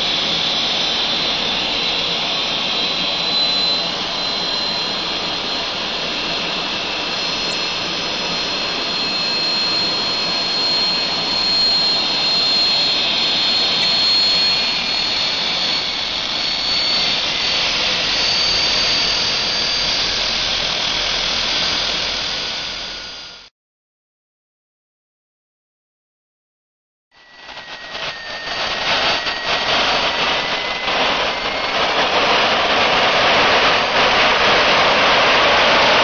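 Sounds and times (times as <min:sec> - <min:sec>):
high steady turbo whine: 0:00.0 - 0:23.5, 0:27.2 - 0:36.0
jet engine roaring: 0:00.0 - 0:23.5, 0:27.2 - 0:36.0.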